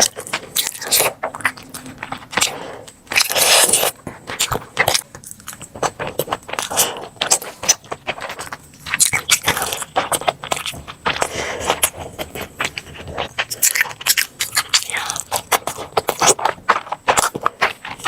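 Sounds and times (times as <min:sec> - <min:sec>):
crunchy eating: 0:00.0 - 0:18.0.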